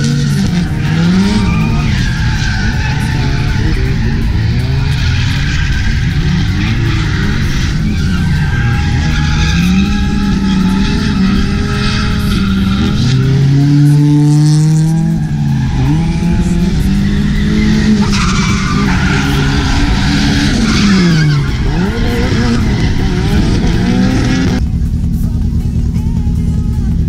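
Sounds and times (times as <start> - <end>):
tyres skidding and squealing: 0.0 - 24.6
car engine revving: 0.0 - 25.1.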